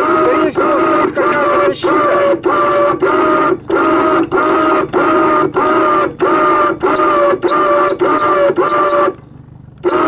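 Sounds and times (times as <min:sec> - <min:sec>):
anchor winch motor whining: 0:00.0 - 0:10.0.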